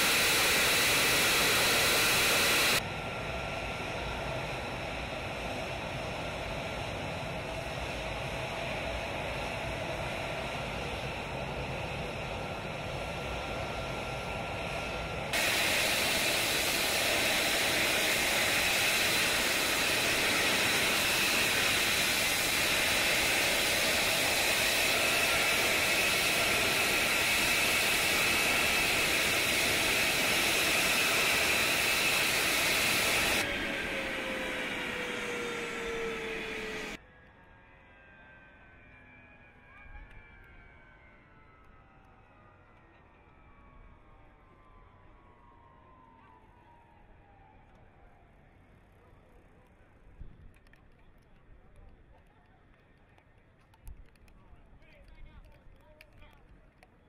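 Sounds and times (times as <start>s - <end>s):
jet engine roaring with whine: 0.0s - 49.2s.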